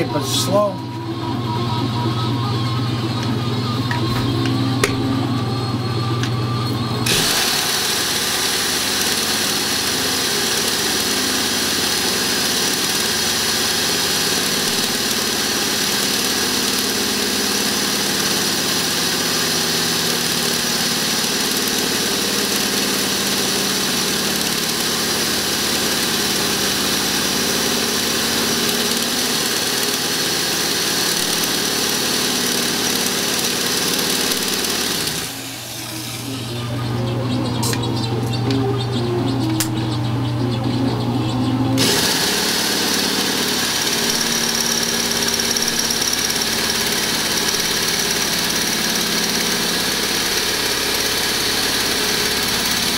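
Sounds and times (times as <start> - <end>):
power tool grinding steel: 2.7 - 39.8, 41.8 - 52.9.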